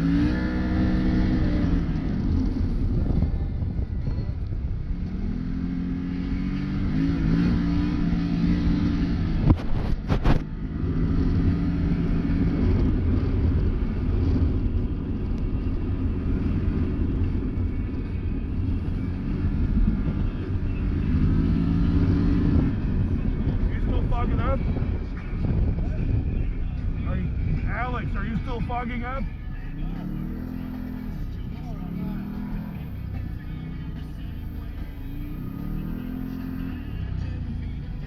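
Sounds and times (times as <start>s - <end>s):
side-by-side engine running: 0.0s - 38.0s.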